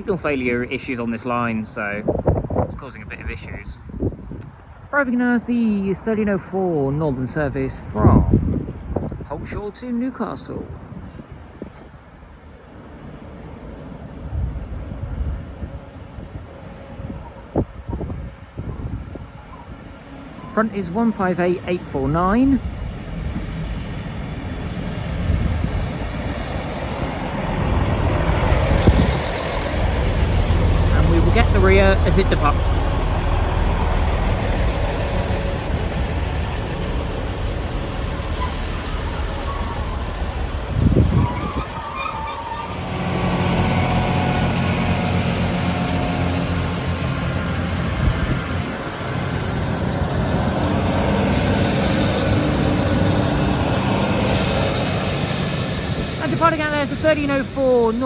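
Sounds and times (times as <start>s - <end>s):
train diesel engine rumble: 10.6s - 58.0s.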